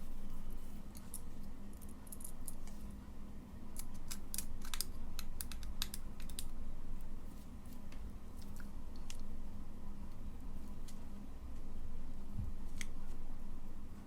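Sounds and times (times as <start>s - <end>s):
low mains hum: 0.0s - 14.0s.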